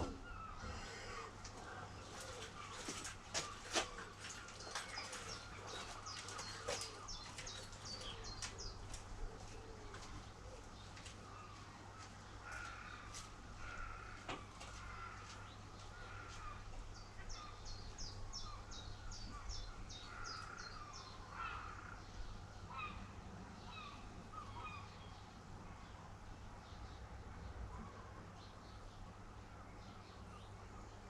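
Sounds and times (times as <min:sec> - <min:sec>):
birds calling: 0:00.0 - 0:31.0.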